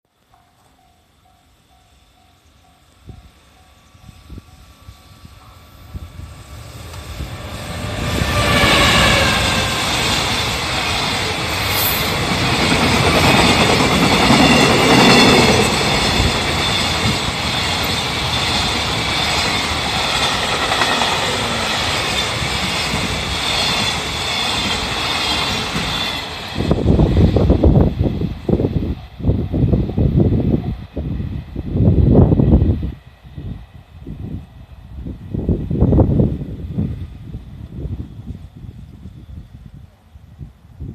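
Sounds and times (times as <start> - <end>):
freight train passing: 0.1 - 40.9.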